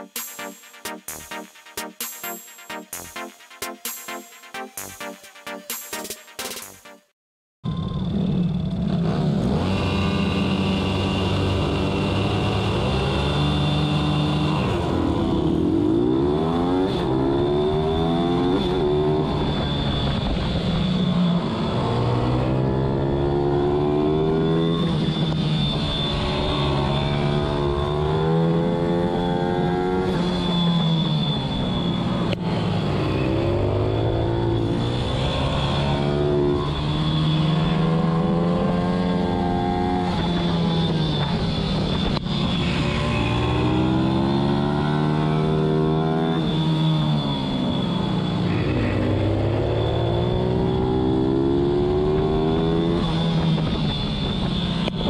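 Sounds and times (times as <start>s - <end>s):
small motorbike engine revving: 7.9s - 20.2s, 21.2s - 55.0s.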